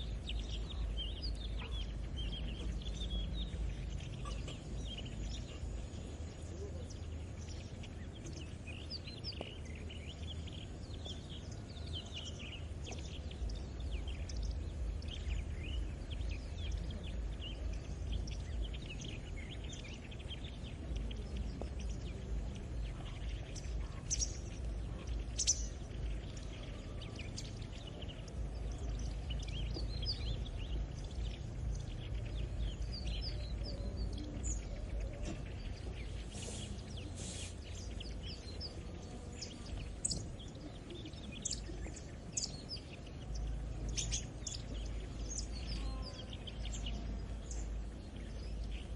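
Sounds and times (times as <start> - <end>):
low steady rumble: 0.0 - 48.9
small birds chirping: 0.0 - 48.9.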